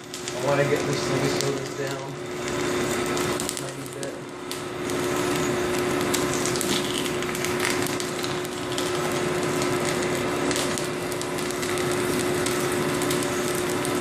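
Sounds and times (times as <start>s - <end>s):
crackling and crunching puffed corn: 0.0s - 14.0s
extruder motor hum: 0.0s - 14.0s.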